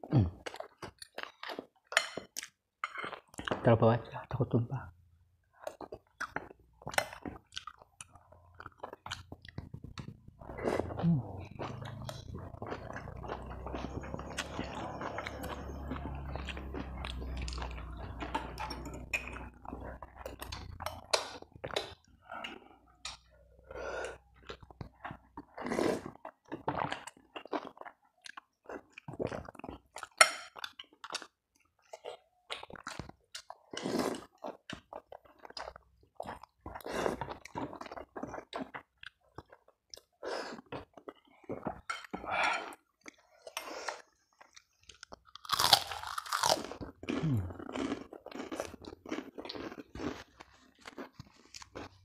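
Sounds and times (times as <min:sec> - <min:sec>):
person chewing and slurping: 0:05.6 - 0:52.0.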